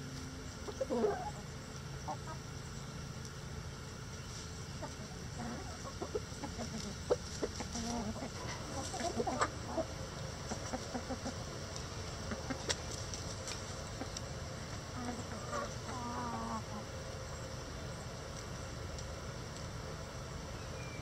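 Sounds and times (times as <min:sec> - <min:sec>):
chickens clucking: 0:00.0 - 0:20.4.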